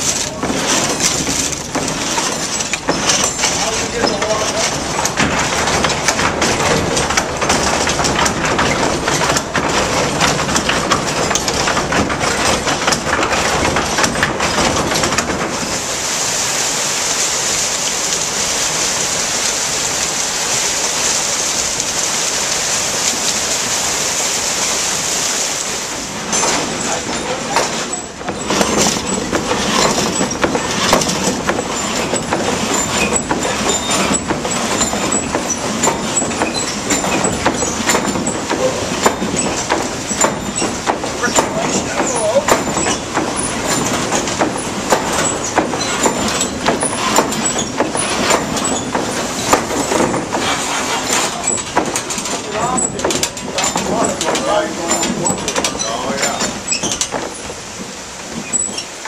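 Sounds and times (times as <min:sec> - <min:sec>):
sawmill machinery clattering: 0:00.0 - 0:59.0
water pouring off water wheel: 0:00.0 - 0:59.0.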